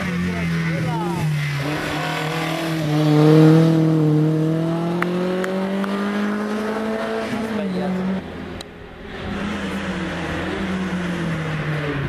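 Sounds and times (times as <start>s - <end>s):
racing car engine accelerating: 0.0s - 12.0s.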